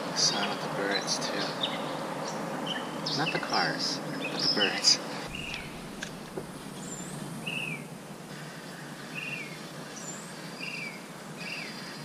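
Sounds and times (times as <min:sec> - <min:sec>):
distant road traffic hum: 0:00.0 - 0:12.0
birds singing: 0:00.1 - 0:12.0.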